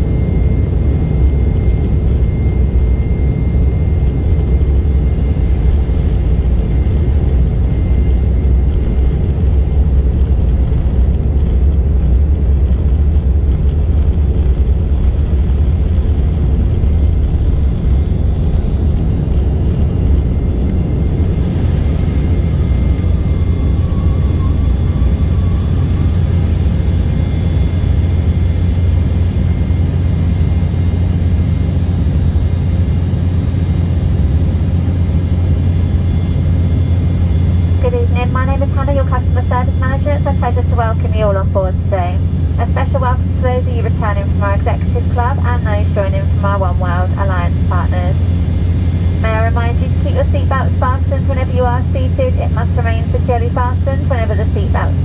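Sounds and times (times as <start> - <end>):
airliner cabin rumble in flight: 0.0 - 55.0.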